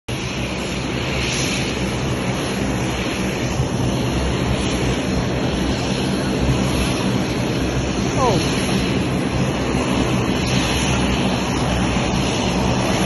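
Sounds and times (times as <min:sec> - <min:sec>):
turboprop airliner engines running: 0:00.1 - 0:13.0.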